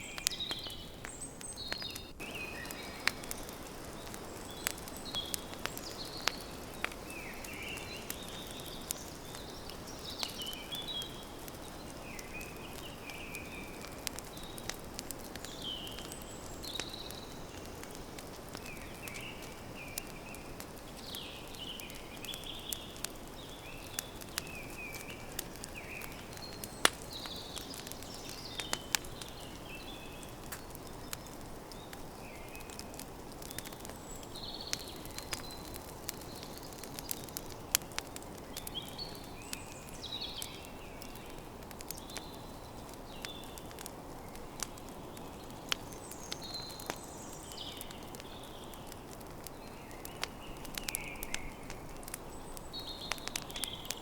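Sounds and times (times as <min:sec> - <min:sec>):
campfire crackling: 0:00.0 - 0:54.0
small birds chirping: 0:00.0 - 0:54.0.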